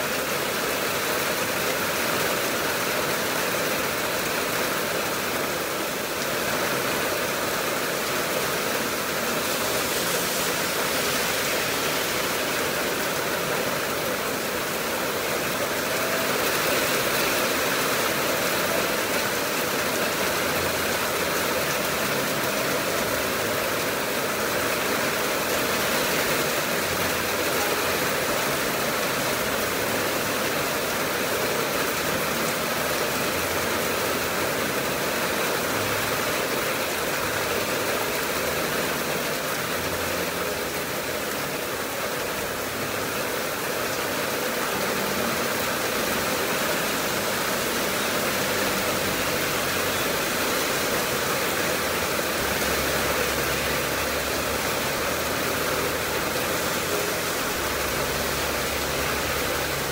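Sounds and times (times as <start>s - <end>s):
heavy rain: 0.0s - 59.9s
runoff pouring off awning: 0.0s - 59.9s.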